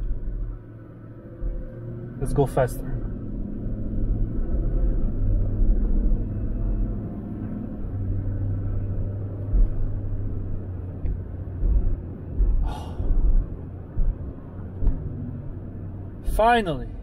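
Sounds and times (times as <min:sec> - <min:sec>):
engine and road rumble: 0:00.0 - 0:17.0
low thumps: 0:00.0 - 0:17.0.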